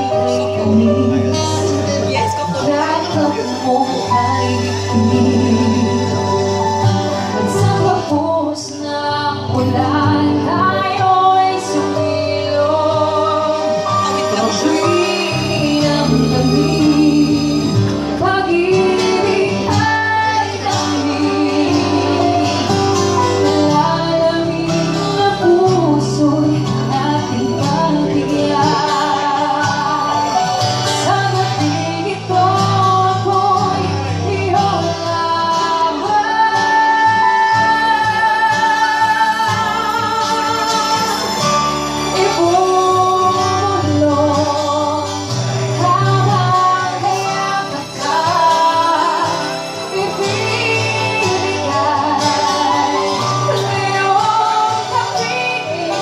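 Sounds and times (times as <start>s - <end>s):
keyboard piano chords: 0.0s - 56.0s
strummed acoustic guitar: 0.0s - 56.0s
woman singing a ballad: 0.0s - 56.0s.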